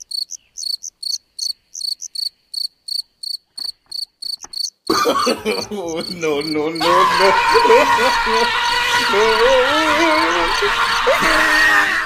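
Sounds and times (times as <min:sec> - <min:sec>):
insect chirping: 0:00.0 - 0:10.6.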